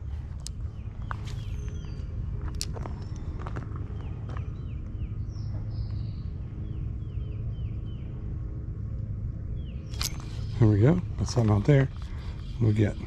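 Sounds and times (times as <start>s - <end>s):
low outdoor rumble: 0.0s - 13.0s
songbirds chirping: 0.0s - 13.0s.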